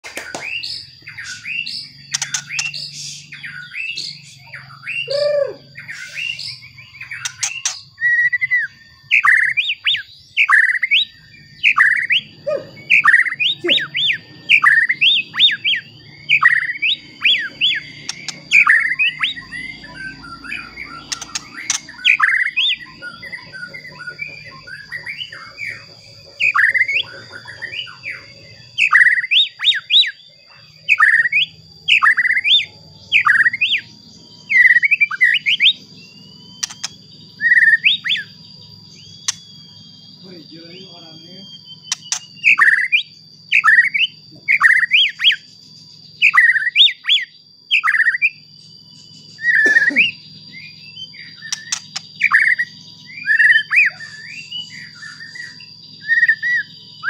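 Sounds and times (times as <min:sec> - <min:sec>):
bird singing: 0:00.0 - 0:57.0
thin steady high tone: 0:00.6 - 0:57.0.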